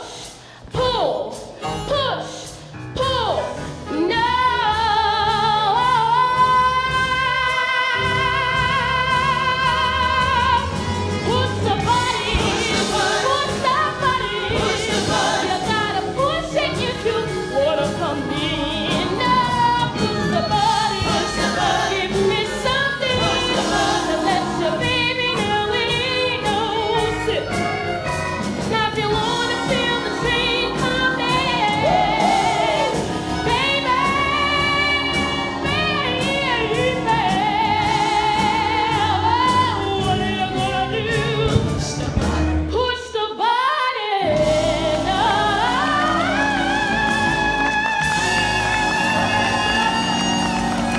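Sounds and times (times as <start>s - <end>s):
woman singing with vibrato: 0.0s - 27.8s, 28.6s - 41.8s, 42.7s - 50.9s
band accompaniment: 0.0s - 43.5s, 44.2s - 50.9s.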